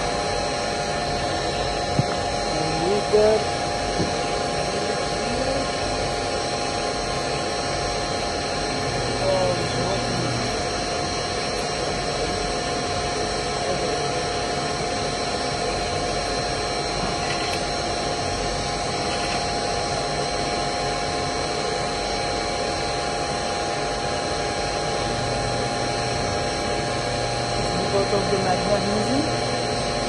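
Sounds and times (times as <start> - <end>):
constant whining tones: 0.0 - 30.0
machine hum: 0.0 - 30.0.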